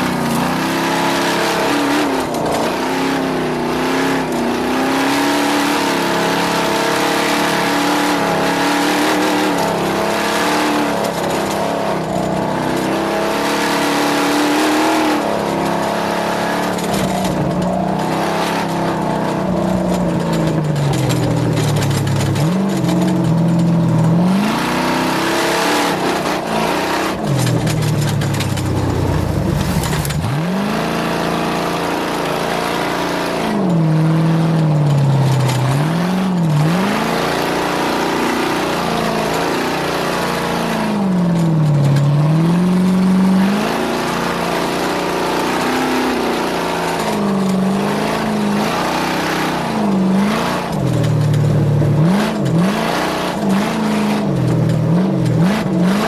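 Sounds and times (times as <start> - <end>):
racing engine revving: 0.0 - 56.0.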